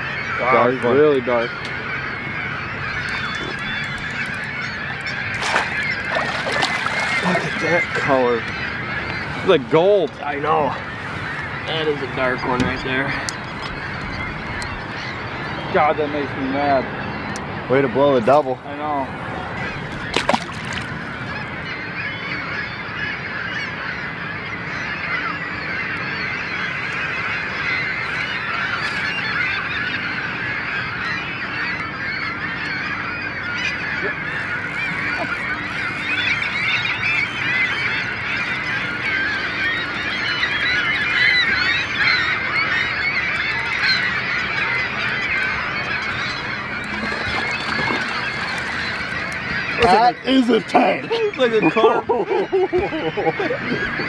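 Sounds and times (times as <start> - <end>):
waterbird flock honking: 0.0 - 54.0.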